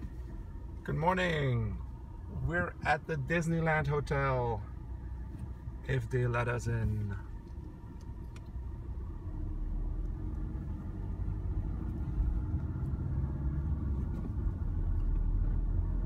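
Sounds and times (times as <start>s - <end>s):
car engine from inside cabin: 0.0s - 16.0s
road rumble: 0.0s - 16.0s.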